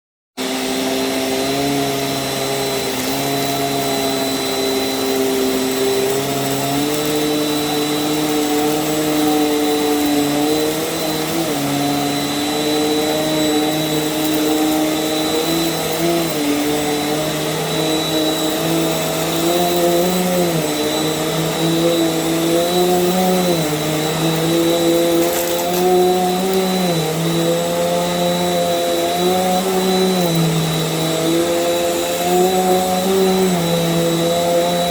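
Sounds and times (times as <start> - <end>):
vacuum cleaner motor hum: 0.4 - 34.9.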